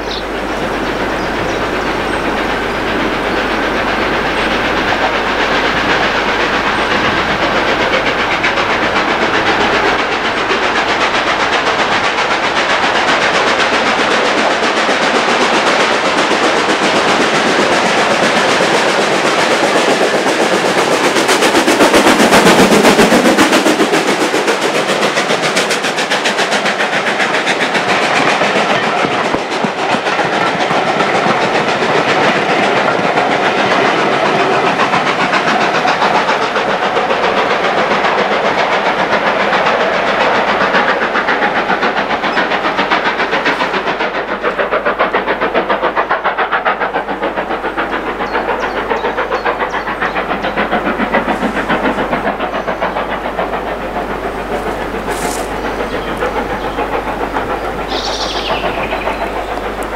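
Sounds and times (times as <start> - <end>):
steam locomotive passing: 0.0 - 59.9
train wheels clattering over rail joints: 0.0 - 59.9.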